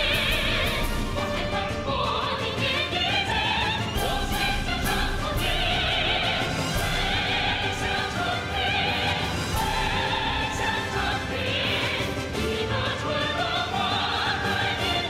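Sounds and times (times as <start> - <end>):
orchestral accompaniment: 0.0 - 15.0
women singing together: 0.0 - 15.0.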